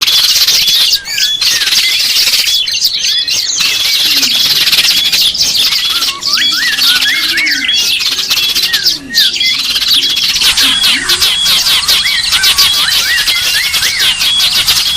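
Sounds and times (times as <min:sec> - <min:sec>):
chorus of small birds calling: 0:00.0 - 0:14.9.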